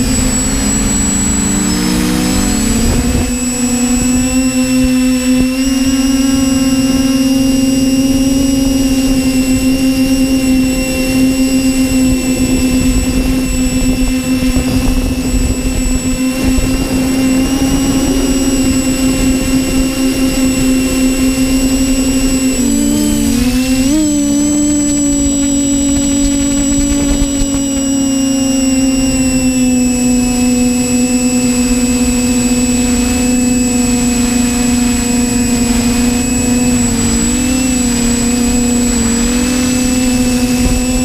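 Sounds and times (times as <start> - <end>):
wind rumble: 0.0 - 30.0, 32.7 - 41.0
drone motors humming: 0.0 - 41.0.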